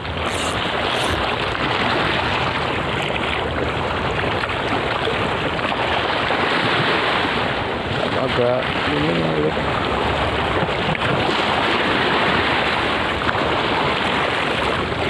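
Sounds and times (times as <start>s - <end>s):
choppy sea water: 0.0s - 15.0s.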